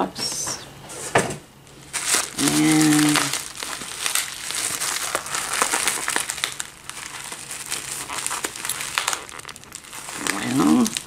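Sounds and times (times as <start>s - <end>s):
bubble wrap crinkling: 1.6s - 11.0s.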